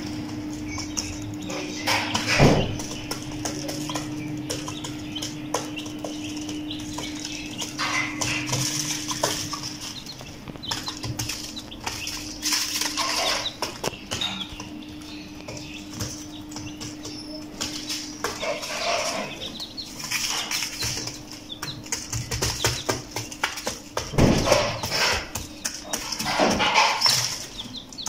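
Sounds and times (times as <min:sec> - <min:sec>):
chickens scratching in sawdust: 0:00.0 - 0:28.0
chicks peeping: 0:00.0 - 0:28.0
steady low hum: 0:00.0 - 0:28.0.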